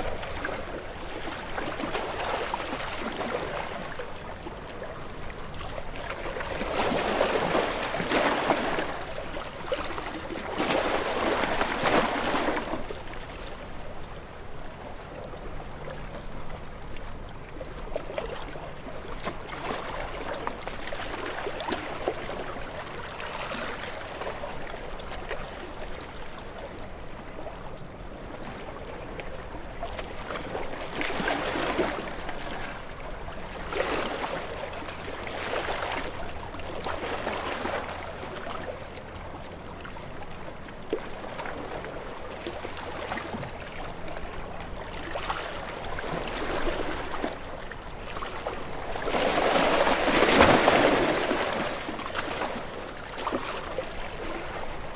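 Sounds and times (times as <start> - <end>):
small waves washing: 0.0 - 54.9.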